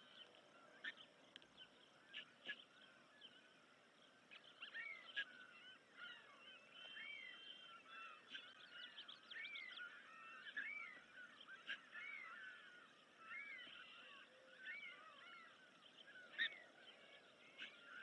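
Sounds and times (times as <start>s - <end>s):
birds chirping and peeping: 0.0s - 18.0s.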